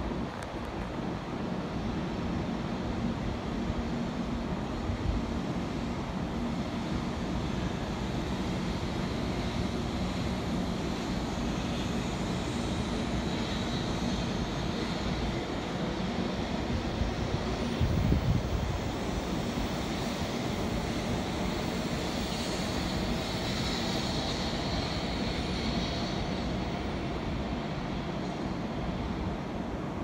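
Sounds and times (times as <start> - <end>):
train low hum: 0.0 - 30.0
train rolling noise: 0.0 - 30.0.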